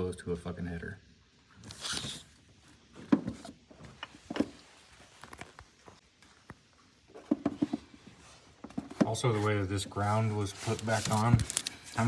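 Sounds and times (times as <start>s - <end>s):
quiet rustling: 1.7s - 12.0s.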